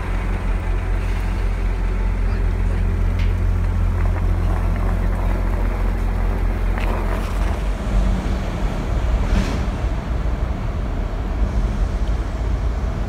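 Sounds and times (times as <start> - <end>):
diesel train engine rumble: 0.0 - 13.0.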